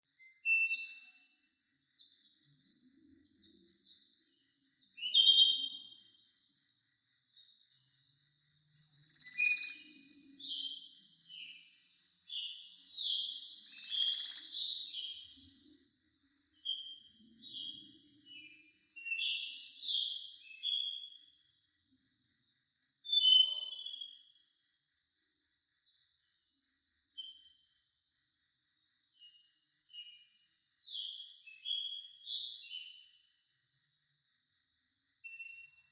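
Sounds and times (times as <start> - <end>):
high insect trill: 0.1 - 35.9.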